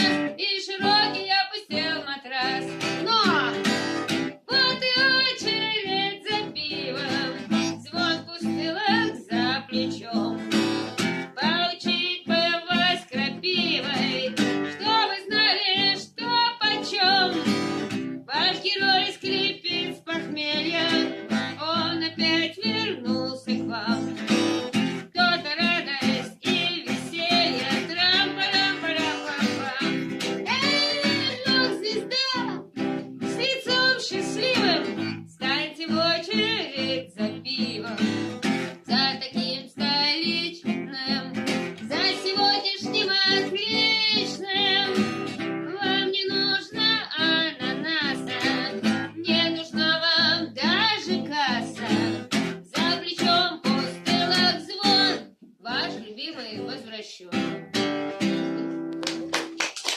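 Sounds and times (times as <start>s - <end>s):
person singing: 0.0s - 57.8s
acoustic guitar strumming: 0.0s - 59.3s.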